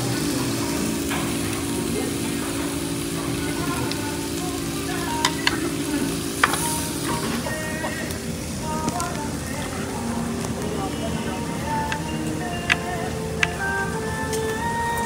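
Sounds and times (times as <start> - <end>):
meat sizzling on grill: 0.0 - 15.0
utensils clinking: 0.0 - 15.0.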